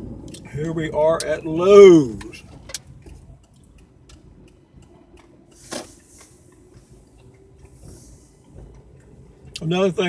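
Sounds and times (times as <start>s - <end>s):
faint regular ticking: 0.0s - 10.0s
low steady hum: 0.0s - 10.0s.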